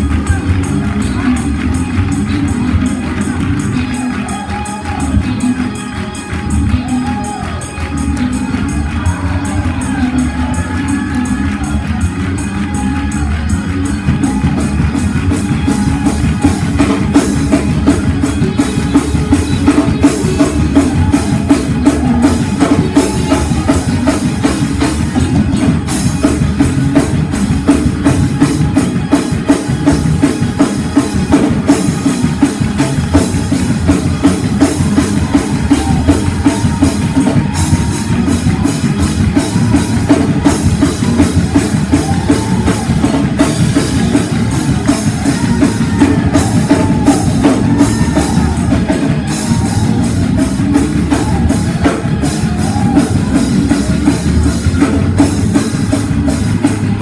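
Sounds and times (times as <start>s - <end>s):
church band playing praise music: 0.0s - 57.0s
loud drum kit beats: 0.0s - 57.0s.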